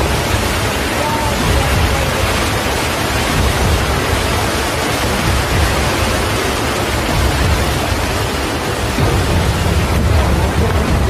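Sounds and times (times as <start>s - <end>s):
deep rumble: 0.0s - 11.0s
rock and earth pouring down: 0.0s - 11.0s.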